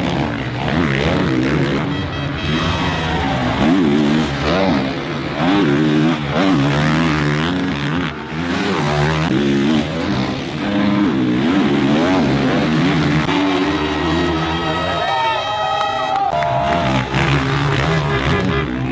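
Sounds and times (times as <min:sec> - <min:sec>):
motocross bikes revving: 0:00.0 - 0:18.9.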